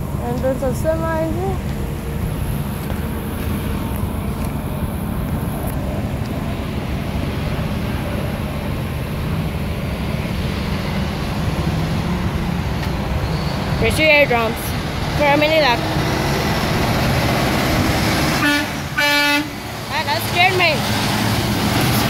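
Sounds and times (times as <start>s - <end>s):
diesel truck engines: 0.0s - 22.0s
traffic rumble: 0.0s - 22.0s.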